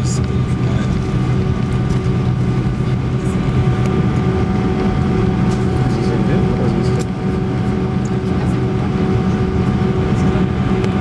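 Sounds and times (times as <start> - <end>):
jet engines droning in cabin: 0.0 - 11.0.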